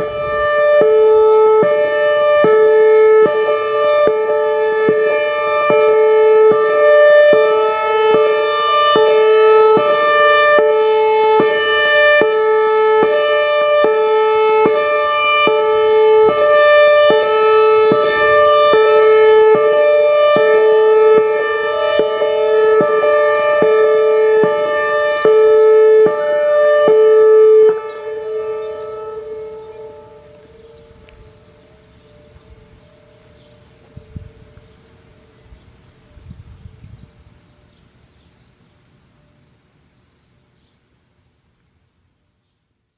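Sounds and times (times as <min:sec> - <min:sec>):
hi-lo warning siren: 0:00.0 - 0:37.7.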